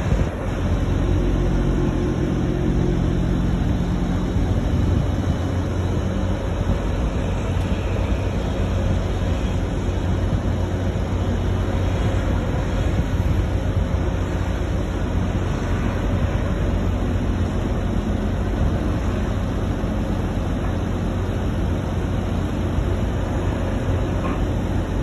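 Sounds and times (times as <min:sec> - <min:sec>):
machinery rumbling: 0:00.0 - 0:25.0.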